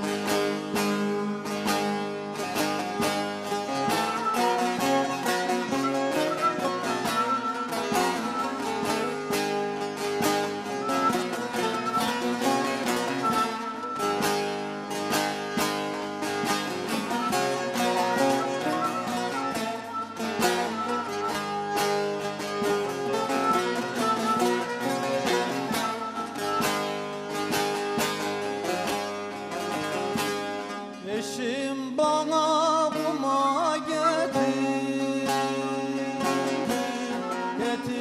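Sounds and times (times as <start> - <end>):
wavering melody with vibrato: 0.0 - 31.5
bowed fiddle: 0.0 - 32.0, 32.8 - 38.0
plucked lute strokes: 0.0 - 32.0, 32.9 - 38.0.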